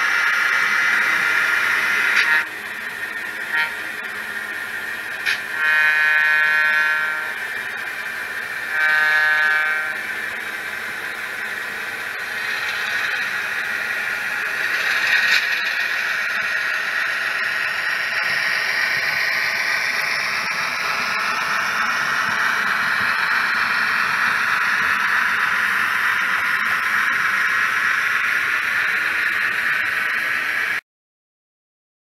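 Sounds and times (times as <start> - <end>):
model train running on track: 0.0 - 30.8.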